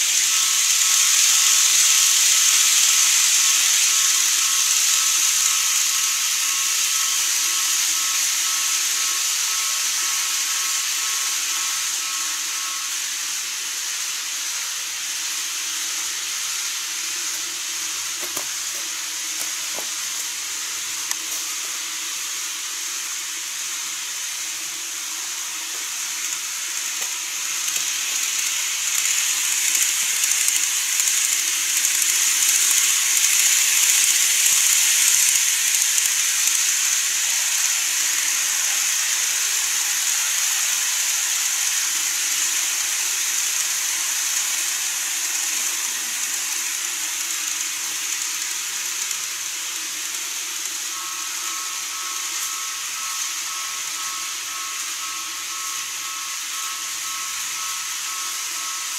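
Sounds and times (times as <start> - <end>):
model train running on track: 0.0 - 58.9.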